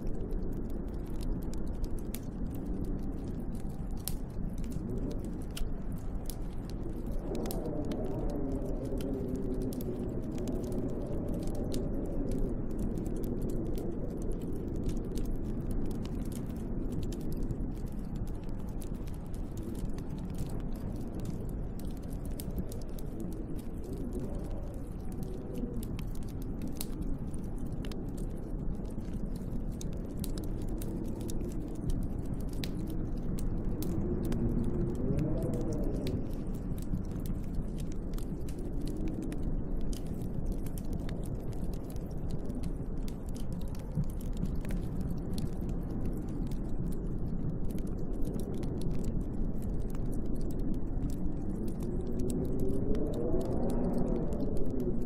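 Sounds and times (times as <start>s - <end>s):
storm wind with whistling gusts: 0.0s - 55.0s
wood fire crackling: 0.0s - 55.0s.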